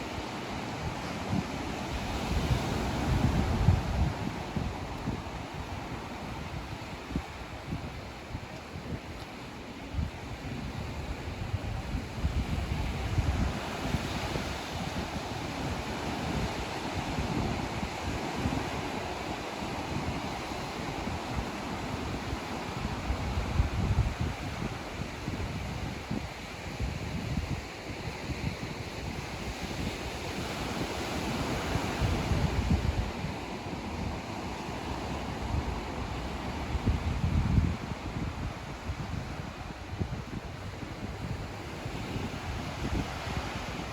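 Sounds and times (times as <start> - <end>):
ocean waves washing onto beach: 0.0 - 43.9
wind buffeting microphone: 0.0 - 43.9.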